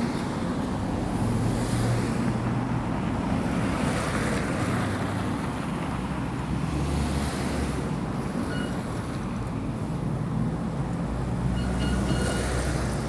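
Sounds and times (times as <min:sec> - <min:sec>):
tram rumble and hiss: 0:00.0 - 0:13.0.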